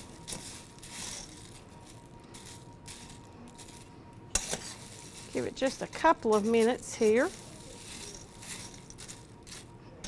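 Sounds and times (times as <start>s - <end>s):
cereal rattling in metal skillet: 0.0s - 3.8s, 4.4s - 9.7s.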